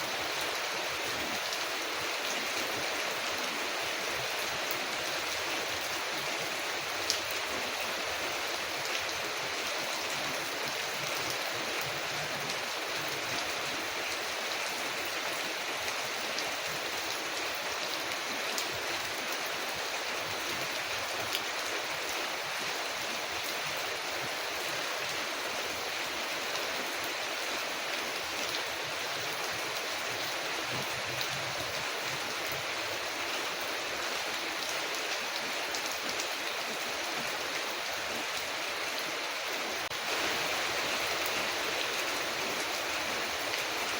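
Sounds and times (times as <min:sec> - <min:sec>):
rain on a window: 0:00.1 - 0:38.6.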